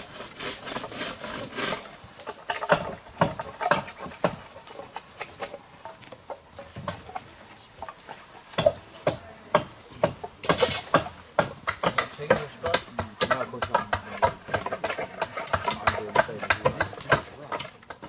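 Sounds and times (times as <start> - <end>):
knives shaving wood: 0.0 - 18.0.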